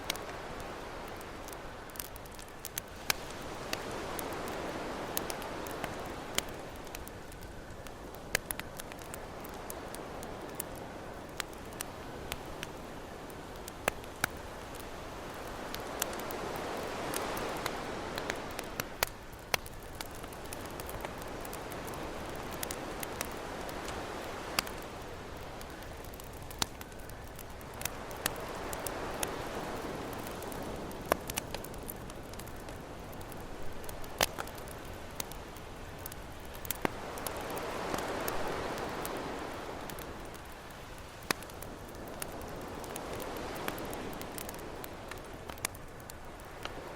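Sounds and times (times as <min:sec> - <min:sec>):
ocean waves: 0:00.0 - 0:07.5, 0:08.8 - 0:26.6, 0:27.6 - 0:46.9
campfire crackling: 0:00.0 - 0:46.9.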